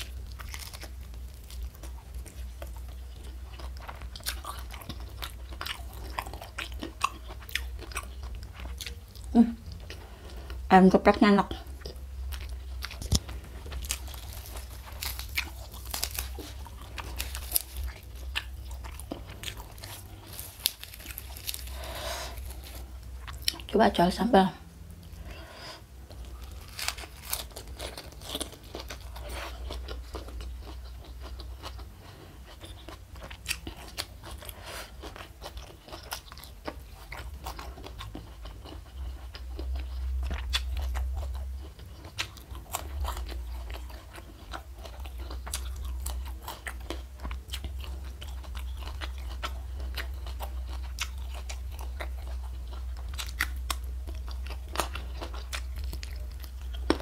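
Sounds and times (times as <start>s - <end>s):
person chewing crunchy food: 0.0s - 10.7s, 11.5s - 23.7s, 25.0s - 57.0s
steady low hum: 0.0s - 57.0s.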